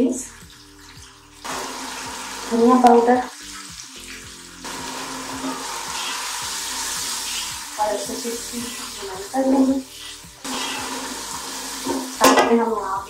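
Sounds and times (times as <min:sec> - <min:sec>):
masala sizzling in hot oil: 0:00.2 - 0:13.0.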